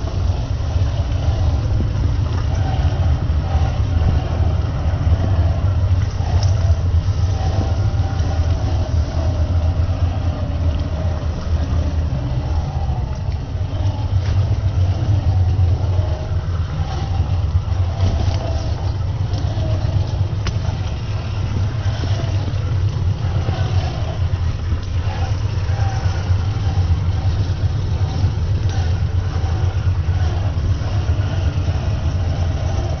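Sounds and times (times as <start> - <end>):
electric motor drone: 0.0 - 33.0
faint clicks: 1.0 - 33.0.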